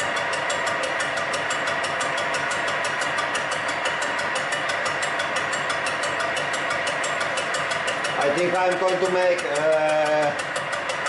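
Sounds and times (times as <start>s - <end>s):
lathe humming: 0.0s - 11.0s
lathe tool ticking on metal: 0.0s - 11.0s.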